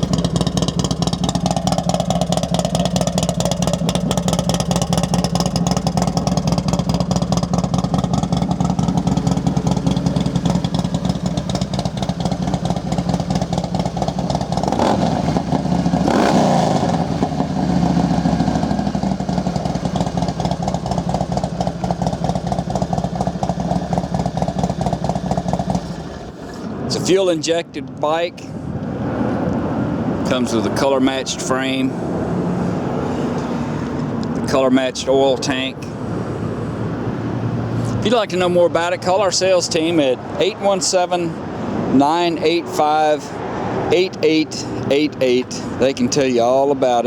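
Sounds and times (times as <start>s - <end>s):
motorcycle engine idling and revving: 0.0s - 27.8s, 28.6s - 47.0s.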